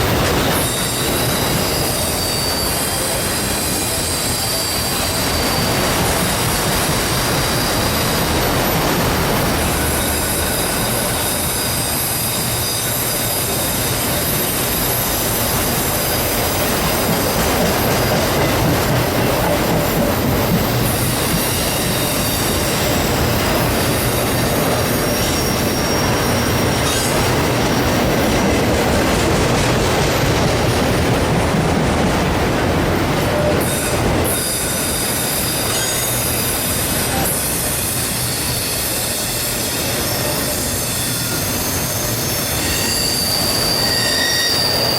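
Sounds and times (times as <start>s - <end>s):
freight train rumbling: 0.0s - 44.9s
train wheels squealing on rails: 0.0s - 44.9s.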